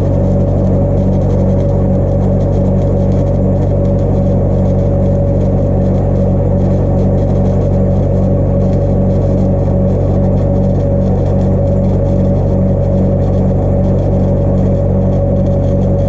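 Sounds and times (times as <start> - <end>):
welding arc crackling: 0.0 - 16.0
welding machine low hum: 0.0 - 16.0.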